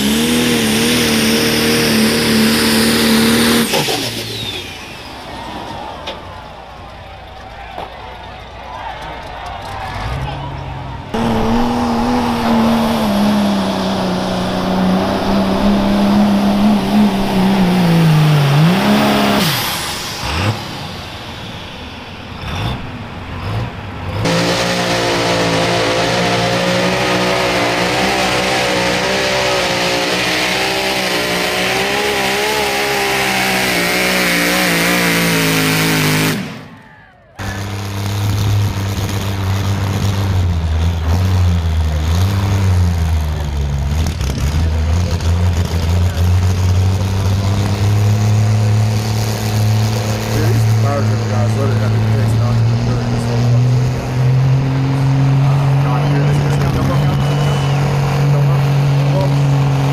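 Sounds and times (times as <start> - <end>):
tractor engine at high revs: 0.0 - 6.5, 9.2 - 36.8, 37.4 - 59.9
diesel pickup rumbling: 0.0 - 59.9
pickup engine at full power: 0.0 - 59.9.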